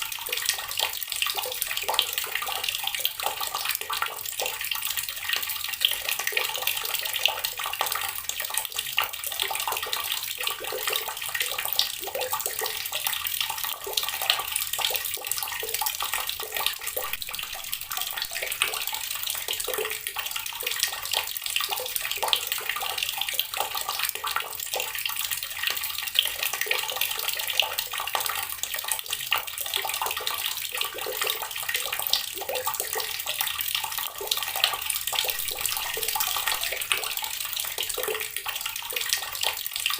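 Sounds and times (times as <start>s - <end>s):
tap water splashing into basin: 0.4s - 39.9s.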